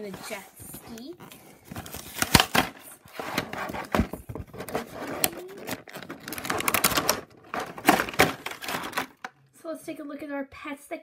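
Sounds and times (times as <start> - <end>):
plastic packaging crinkling: 0.2 - 9.3.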